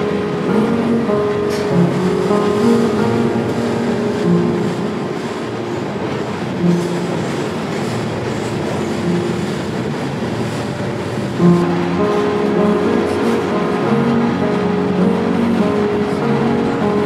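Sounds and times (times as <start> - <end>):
freight car rumbling on rails: 0.0 - 17.0.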